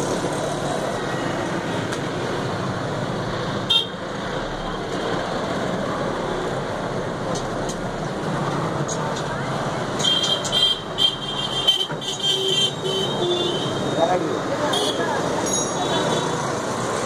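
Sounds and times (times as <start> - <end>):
background traffic noise: 0.0 - 17.0.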